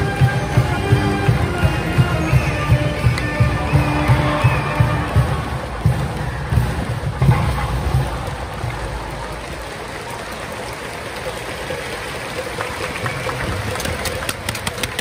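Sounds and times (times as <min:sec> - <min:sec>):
crowd murmur in stadium: 0:00.0 - 0:15.0.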